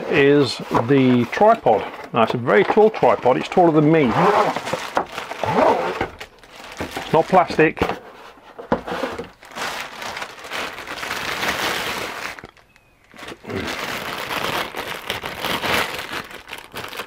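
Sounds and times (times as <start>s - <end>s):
plastic bag crinkling: 0.0s - 7.8s, 9.1s - 17.0s.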